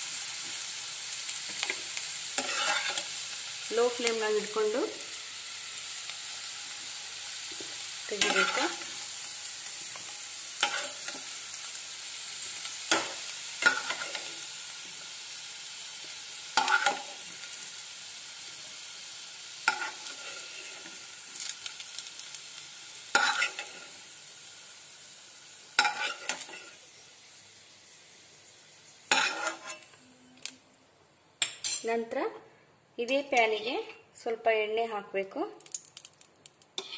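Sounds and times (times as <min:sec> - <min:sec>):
oil sizzling: 0:00.0 - 0:30.6, 0:35.6 - 0:36.9.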